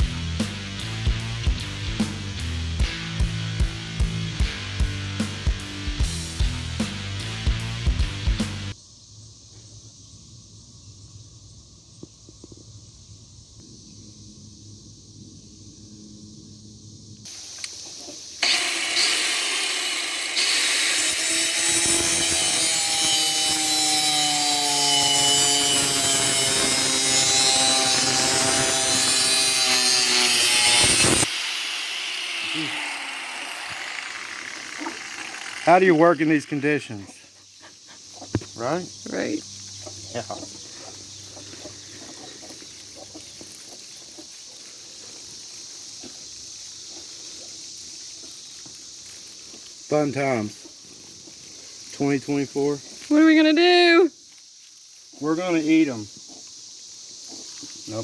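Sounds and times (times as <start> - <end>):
cicadas buzzing chorus: 7.6 - 58.0.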